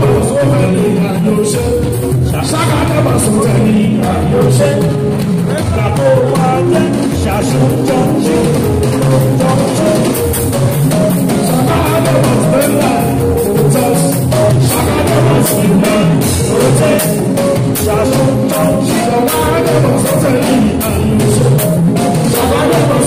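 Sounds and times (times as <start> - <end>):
band drumming and percussion: 0.0 - 23.0
person singing: 0.0 - 23.0.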